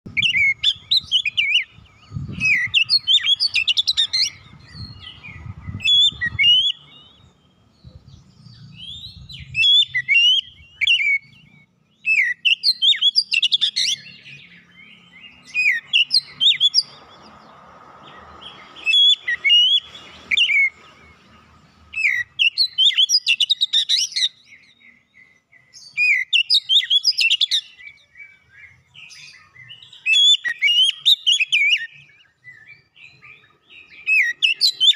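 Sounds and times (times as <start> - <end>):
bird singing whistled phrases: 0.1 - 17.0, 18.6 - 20.8, 22.0 - 34.9.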